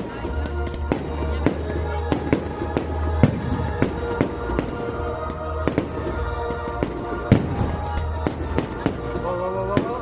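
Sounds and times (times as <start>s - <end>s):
music with steady bass: 0.0s - 10.0s.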